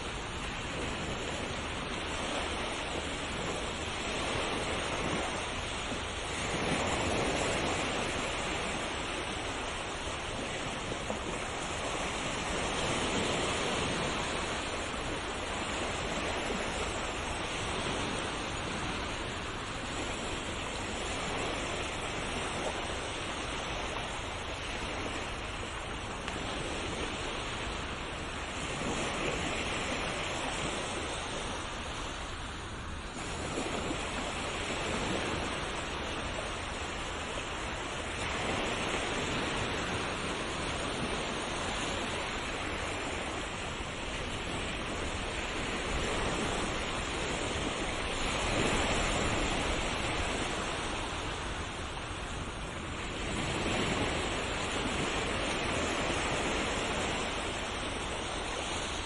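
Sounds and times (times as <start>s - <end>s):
sea waves washing on shore: 0.0s - 59.0s.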